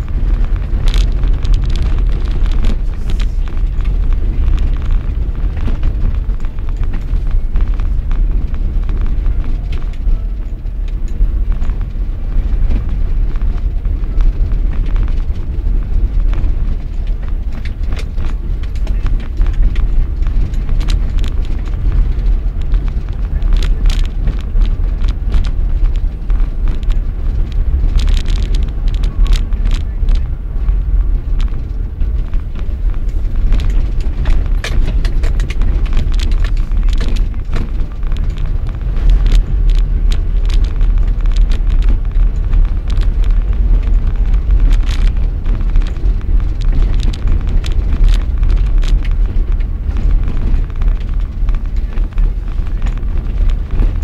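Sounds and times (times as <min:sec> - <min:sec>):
crackles: 0:00.0 - 0:54.0
vehicle road noise: 0:00.0 - 0:54.0
wind buffeting on microphone: 0:00.0 - 0:54.0.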